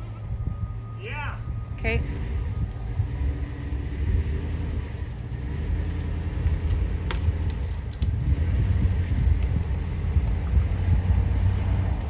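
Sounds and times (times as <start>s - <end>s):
vehicle engine running under load: 0.0s - 12.0s.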